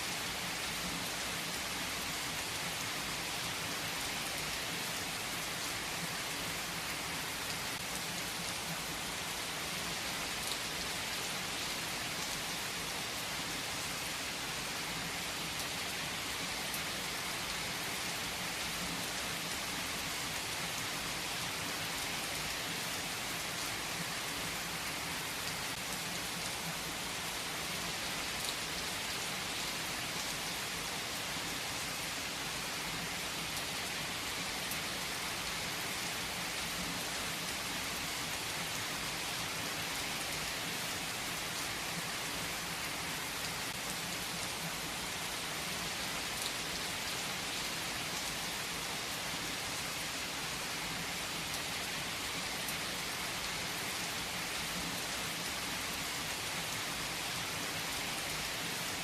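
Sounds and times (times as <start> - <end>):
steady rainfall hiss: 0.0 - 59.0.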